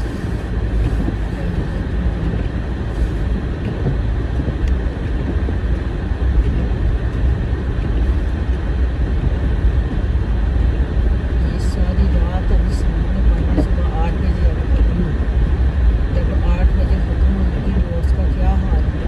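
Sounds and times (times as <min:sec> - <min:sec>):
car driving on snow: 0:00.0 - 0:19.0.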